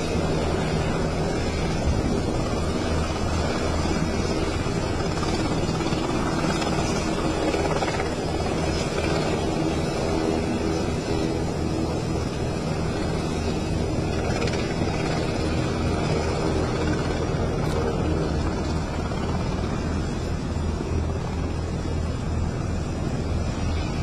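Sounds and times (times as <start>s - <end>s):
helicopter running: 0.0s - 24.0s.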